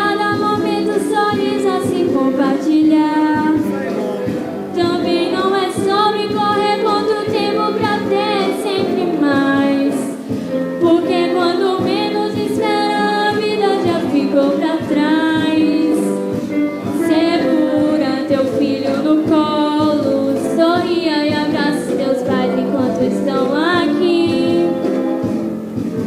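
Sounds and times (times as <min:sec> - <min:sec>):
girl singing pop ballad: 0:00.0 - 0:25.3
acoustic guitar: 0:00.0 - 0:26.0.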